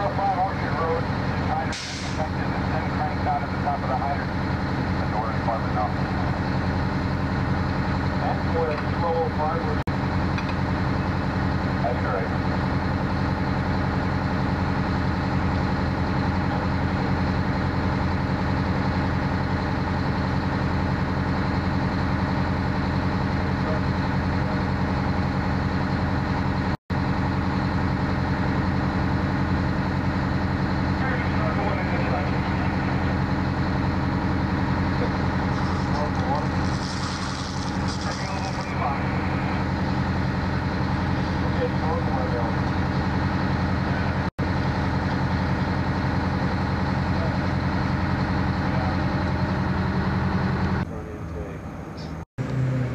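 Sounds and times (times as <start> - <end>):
fire engine idling: 0.0 - 52.1.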